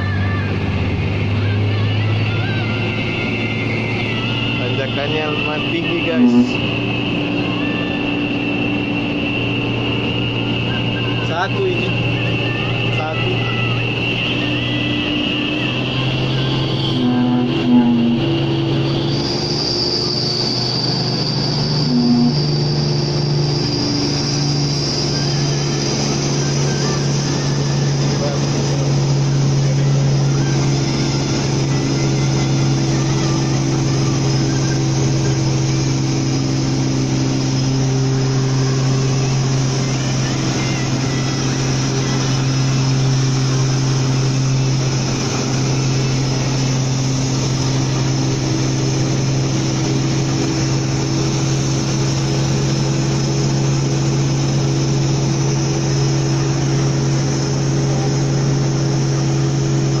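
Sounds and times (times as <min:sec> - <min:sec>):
truck diesel engine droning: 0:00.0 - 1:00.0.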